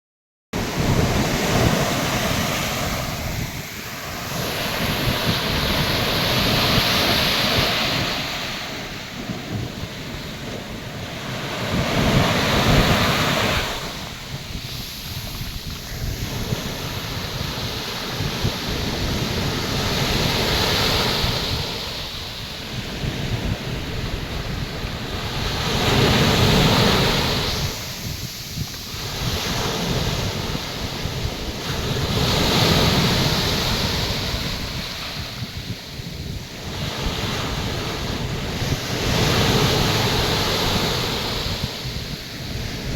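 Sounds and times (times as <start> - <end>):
waves crashing on a beach: 0.6 - 42.9.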